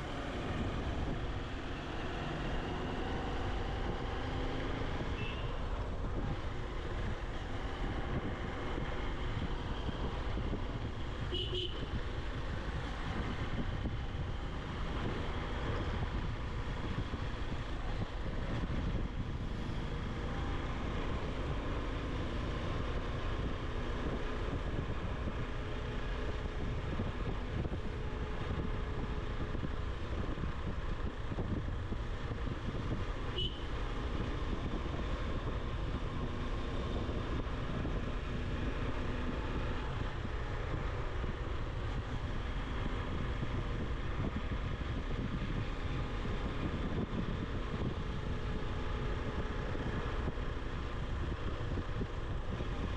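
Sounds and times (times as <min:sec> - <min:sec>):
wind noise: 0:00.0 - 0:52.9.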